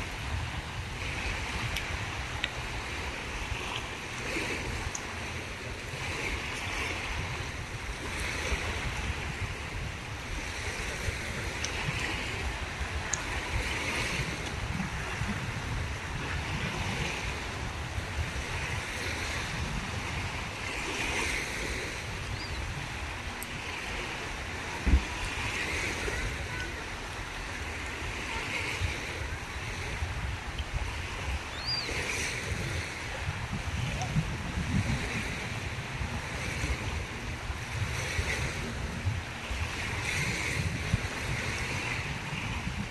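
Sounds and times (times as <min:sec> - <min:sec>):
sea waves washing onto shore: 0:00.0 - 0:42.9
wind rumbling on microphone: 0:00.0 - 0:42.9.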